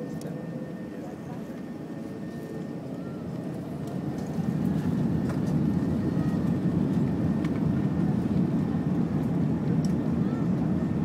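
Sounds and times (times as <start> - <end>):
jet engines deep rumble: 0.0 - 11.0.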